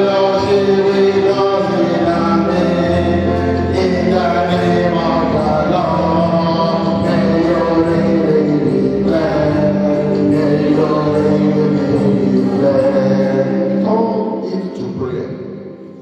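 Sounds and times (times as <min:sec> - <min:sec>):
voices singing gospel chorus: 0:00.0 - 0:15.2.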